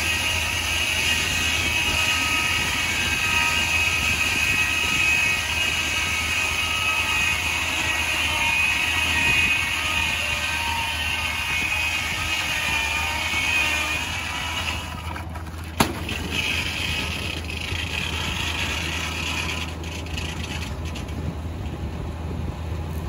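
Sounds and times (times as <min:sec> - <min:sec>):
circular saw blade cutting log: 0:00.0 - 0:21.8
sawmill engine running: 0:00.0 - 0:23.0.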